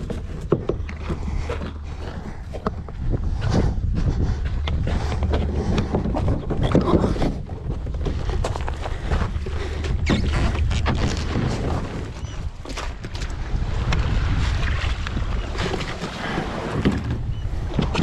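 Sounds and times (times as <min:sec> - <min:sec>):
water splashing around kayak: 0:00.0 - 0:18.0
wind on microphone: 0:00.0 - 0:18.0.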